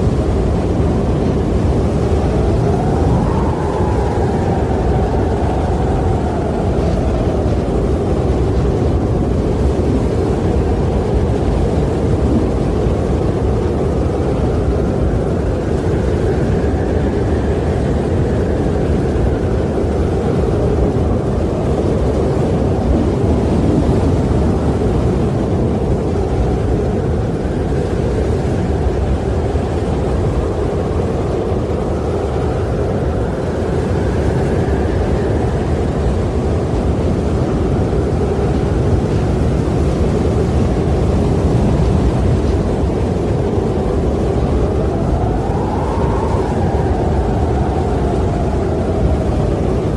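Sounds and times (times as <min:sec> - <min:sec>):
wind blowing: 0:00.0 - 0:49.9.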